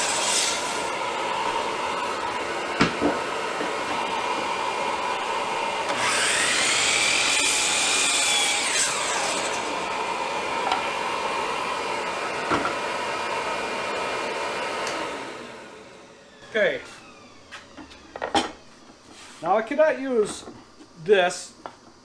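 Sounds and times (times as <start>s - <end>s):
power saw cutting wood: 0.0s - 18.6s.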